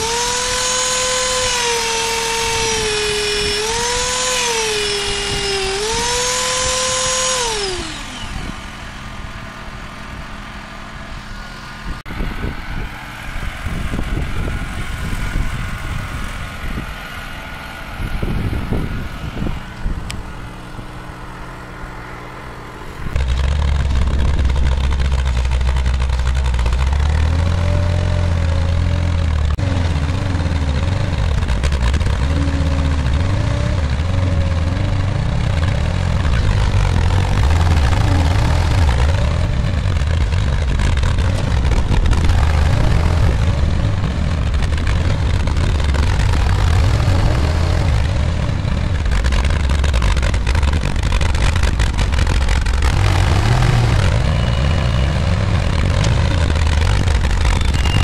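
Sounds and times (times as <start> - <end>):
heavy engine running under load: 0.0 - 58.0.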